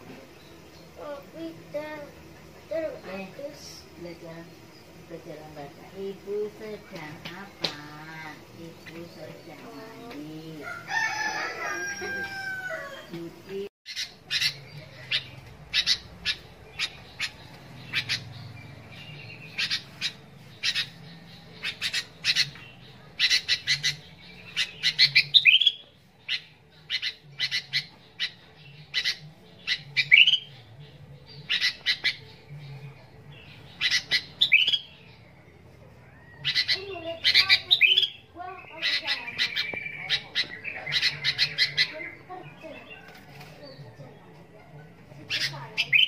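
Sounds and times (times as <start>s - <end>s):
bulbul singing: 0.0s - 46.0s.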